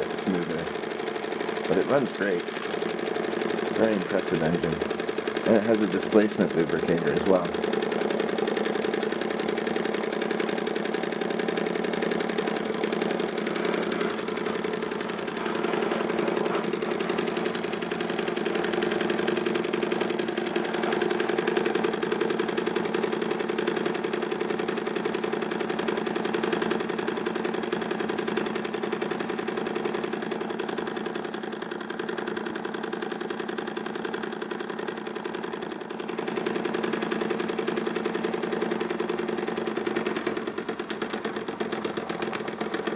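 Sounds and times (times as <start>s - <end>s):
toy steam engine chuffing: 0.0s - 42.9s.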